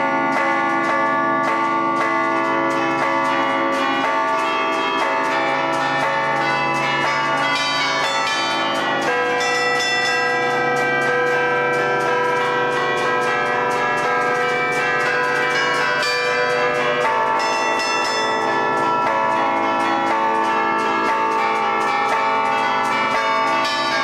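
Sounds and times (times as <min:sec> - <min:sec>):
church bells playing a melody: 0:00.0 - 0:24.0.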